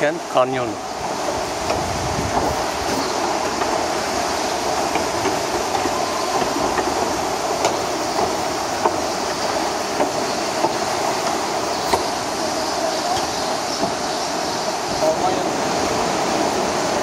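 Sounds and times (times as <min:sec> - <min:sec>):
fast river rushing: 0:00.0 - 0:17.0.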